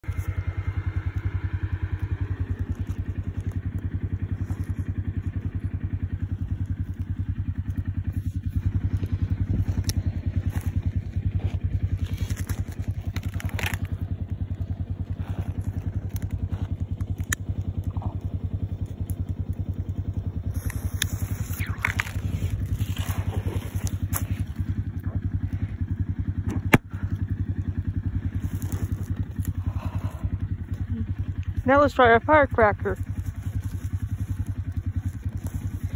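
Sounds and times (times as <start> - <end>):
low pulsing engine rumble: 0.0 - 35.9.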